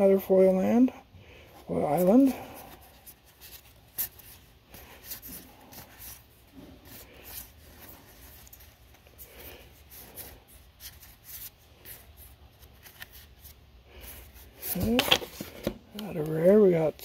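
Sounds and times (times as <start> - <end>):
cards rustling and clicking: 1.8 - 17.0.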